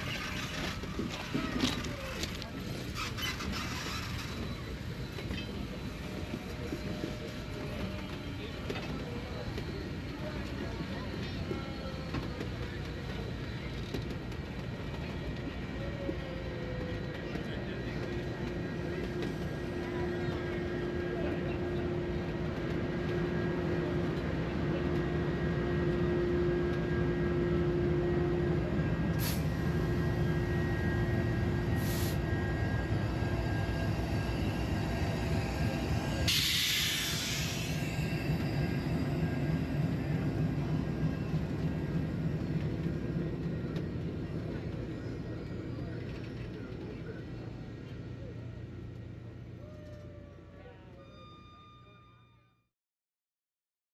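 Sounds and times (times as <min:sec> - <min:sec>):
train wheels rumbling on rail: 0:00.0 - 0:50.6.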